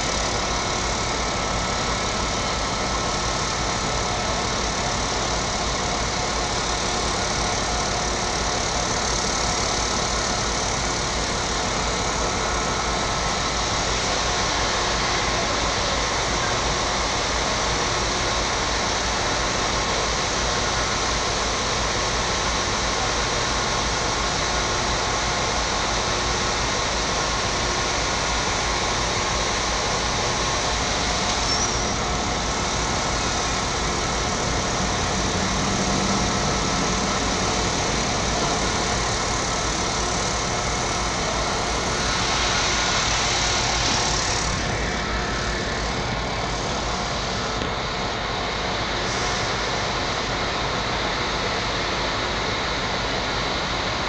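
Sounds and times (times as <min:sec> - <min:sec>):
train running rumble: 0:00.0 - 0:51.3.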